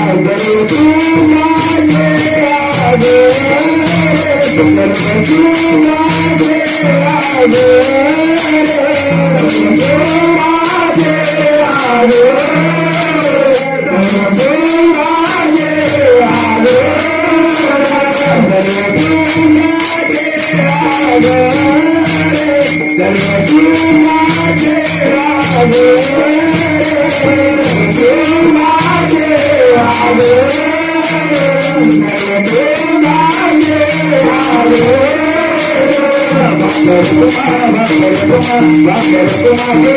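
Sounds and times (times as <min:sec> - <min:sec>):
drum rhythm: 0:00.0 - 0:39.9
jingling hand cymbals: 0:00.0 - 0:39.9
man singing: 0:00.0 - 0:39.9.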